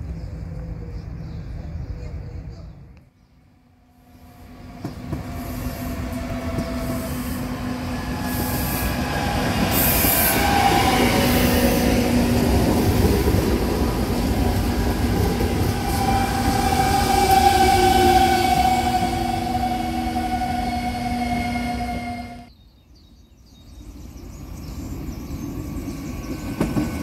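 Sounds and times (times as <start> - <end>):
train rumbling past: 3.7 - 22.5, 23.8 - 27.0.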